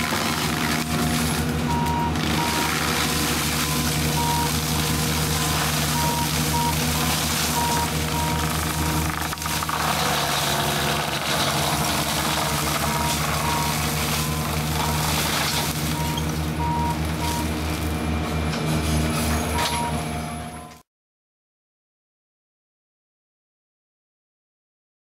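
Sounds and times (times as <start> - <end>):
mulcher head shredding brush: 0.0 - 20.6
diesel engine running under load: 0.0 - 20.8.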